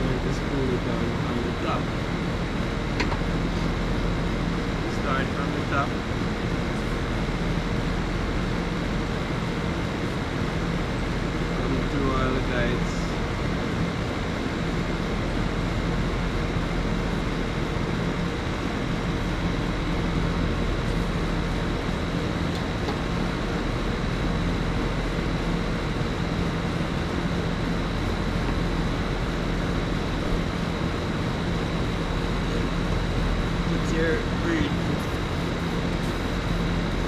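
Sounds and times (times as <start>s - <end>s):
mechanical drone with low hum: 0.0s - 37.0s.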